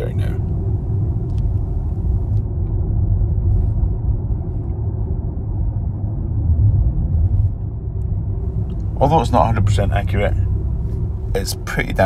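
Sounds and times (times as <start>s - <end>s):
tyre and road noise in car cabin: 0.0s - 12.0s.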